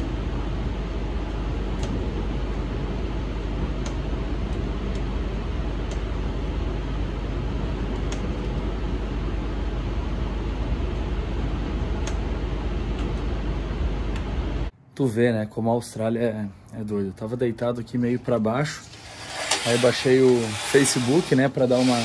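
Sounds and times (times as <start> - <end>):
electric train running rumble: 0.0 - 14.7, 17.9 - 22.0.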